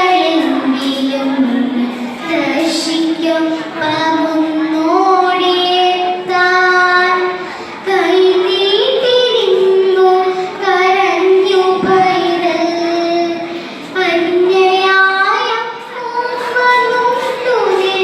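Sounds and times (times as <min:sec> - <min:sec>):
child chanting melodically: 0:00.0 - 0:18.0.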